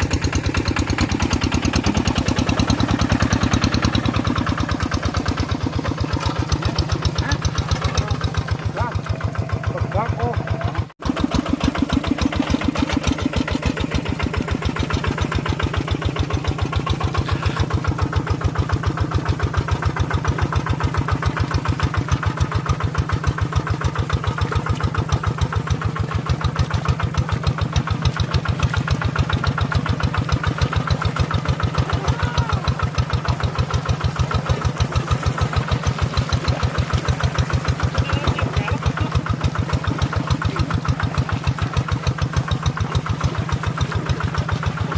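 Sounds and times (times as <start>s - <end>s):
tractor engine chugging: 0.0s - 44.9s.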